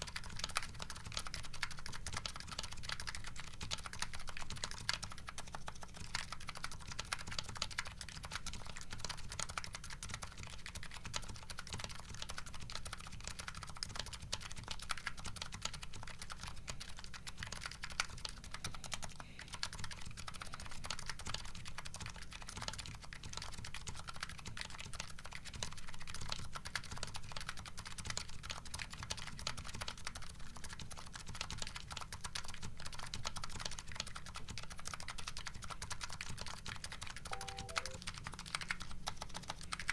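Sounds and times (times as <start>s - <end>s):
keyboard keystroke clacks: 0.0s - 39.9s.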